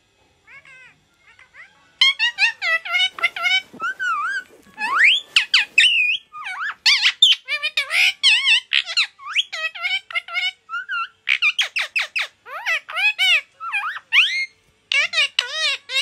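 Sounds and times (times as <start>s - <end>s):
parakeet chirps and whistles: 0.6s - 16.0s.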